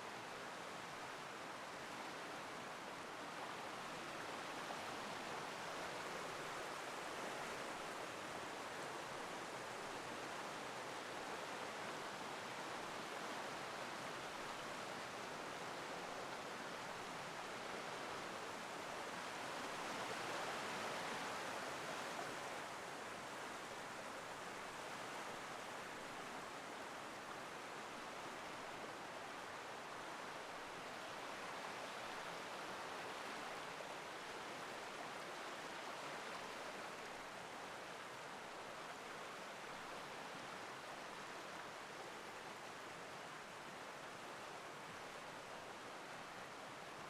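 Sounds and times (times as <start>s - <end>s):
stream rushing over small waterfalls: 0.0s - 47.0s.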